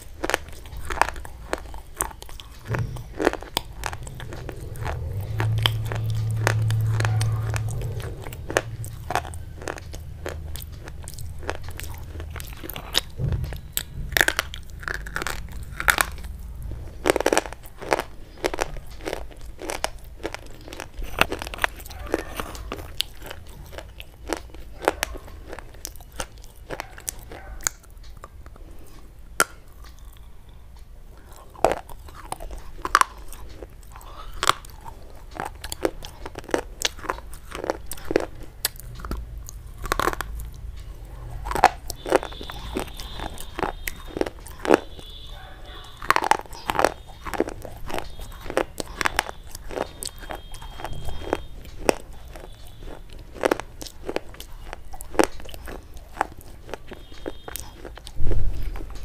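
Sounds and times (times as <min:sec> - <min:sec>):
biting and crunching brittle sticks: 0:00.0 - 0:59.0.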